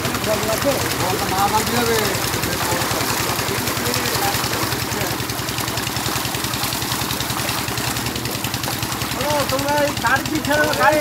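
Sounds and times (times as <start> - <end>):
engine running: 0.0 - 11.0
fish splashing in shallow water: 0.0 - 11.0.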